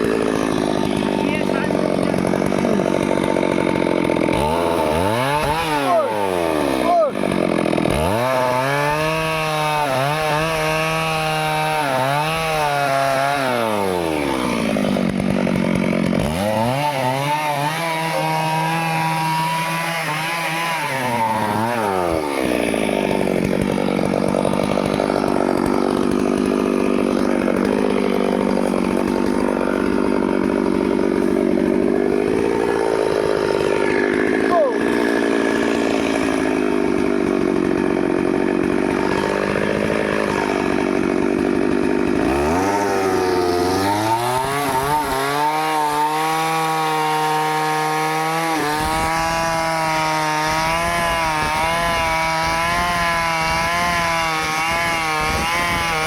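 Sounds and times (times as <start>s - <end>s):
chainsaw cutting a tree: 0.0s - 56.0s.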